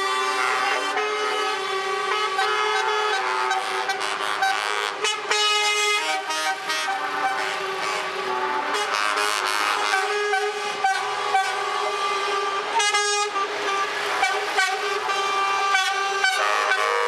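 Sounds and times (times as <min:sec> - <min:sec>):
truck air horns blowing: 0:00.0 - 0:17.0.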